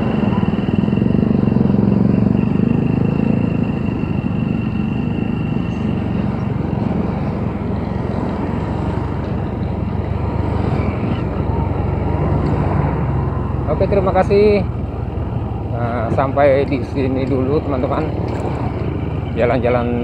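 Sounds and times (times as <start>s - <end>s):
motorcycle engine cruising: 0.0s - 20.0s
road and wind noise: 0.0s - 20.0s.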